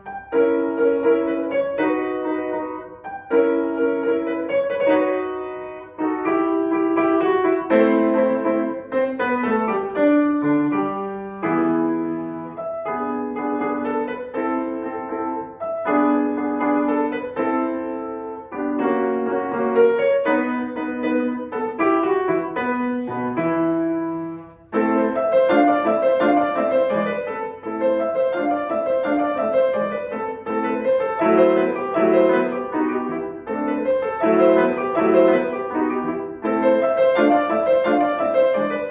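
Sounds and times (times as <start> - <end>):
classical piano piece: 0.0 - 38.9.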